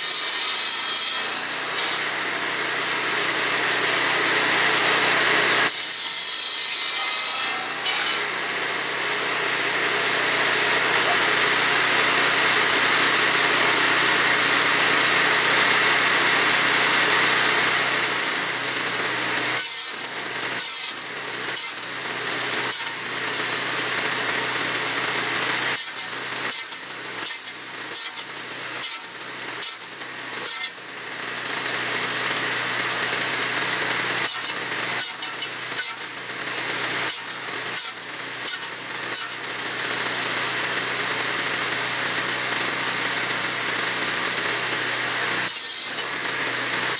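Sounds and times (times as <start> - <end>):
buzz saw running: 0.0 - 46.9.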